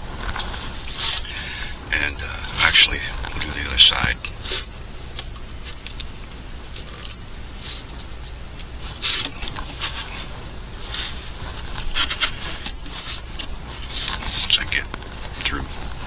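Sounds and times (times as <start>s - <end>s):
steady low hum: 0.0s - 16.0s
soft scrapes and rustles: 0.1s - 3.6s, 5.4s - 16.0s.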